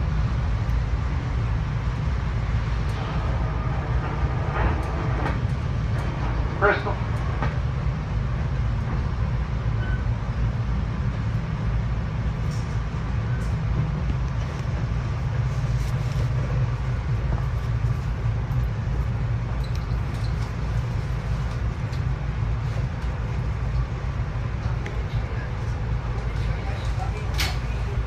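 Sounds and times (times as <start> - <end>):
train rumble on track: 0.0 - 28.0.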